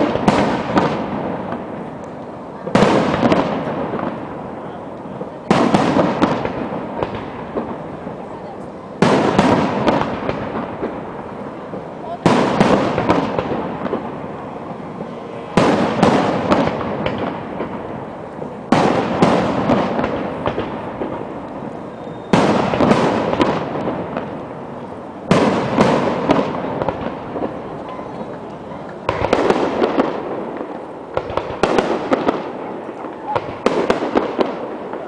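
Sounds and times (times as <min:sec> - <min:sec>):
firework crackle: 0:00.0 - 0:35.0.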